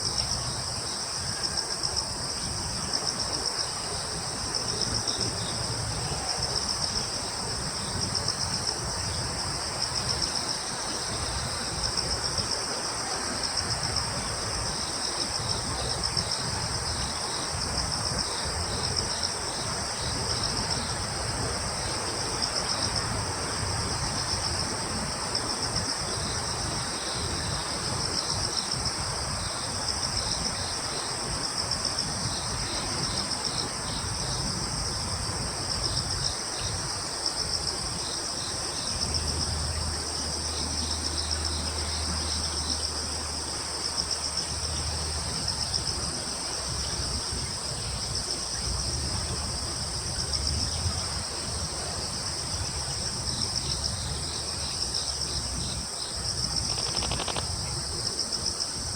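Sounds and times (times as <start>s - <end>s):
crickets chirping: 0.0s - 58.9s
soft outdoor hiss: 0.0s - 58.9s.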